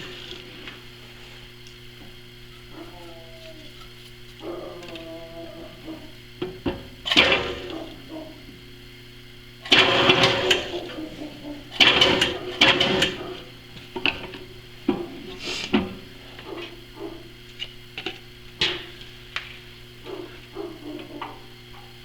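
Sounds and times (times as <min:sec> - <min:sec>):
drill press humming: 0:00.0 - 0:22.0.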